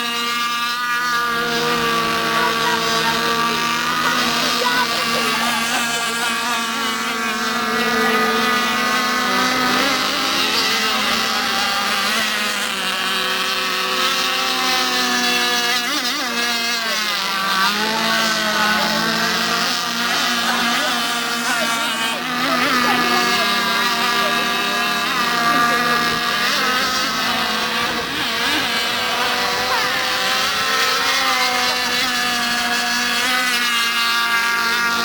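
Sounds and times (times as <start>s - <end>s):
rc boat engines whining: 0.0s - 35.0s.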